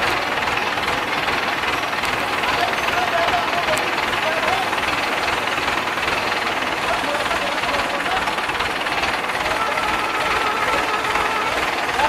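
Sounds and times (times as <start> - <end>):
diesel engine running with rattling: 0.0 - 12.0.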